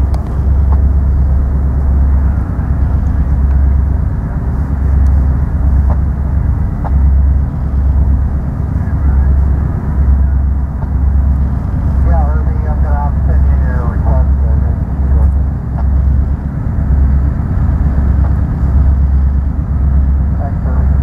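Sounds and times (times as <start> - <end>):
diesel locomotives rumbling under load: 0.0 - 21.0.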